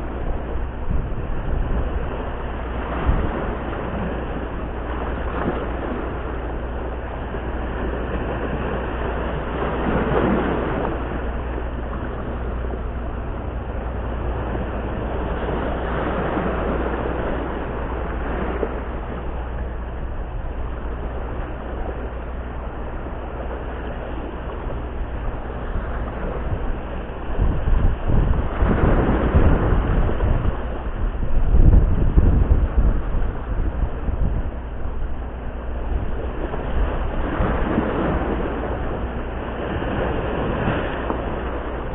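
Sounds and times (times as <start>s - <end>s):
waves breaking over rocks: 0.0s - 41.9s
wind rumble on microphone: 0.0s - 41.9s.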